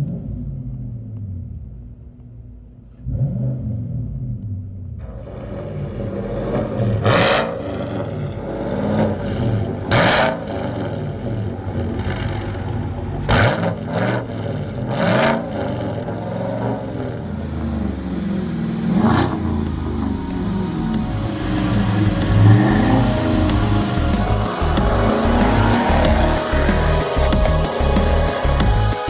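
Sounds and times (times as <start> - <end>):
truck engine revving: 3.0 - 29.0.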